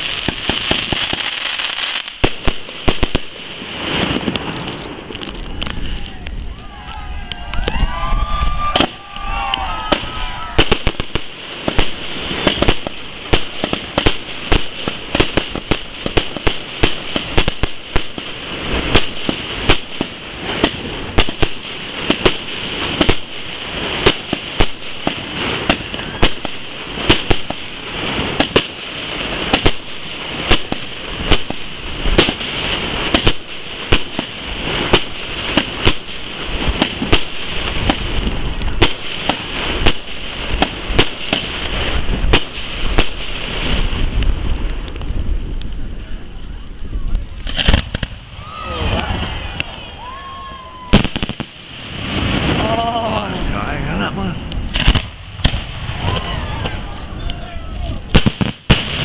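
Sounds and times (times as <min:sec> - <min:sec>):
fireworks bangs: 0:00.0 - 0:59.0
steady hiss: 0:08.9 - 0:56.1.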